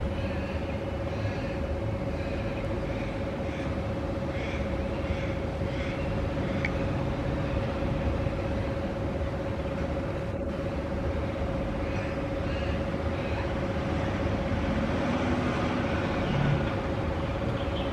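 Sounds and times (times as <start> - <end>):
machinery rumbling: 0.0 - 17.9.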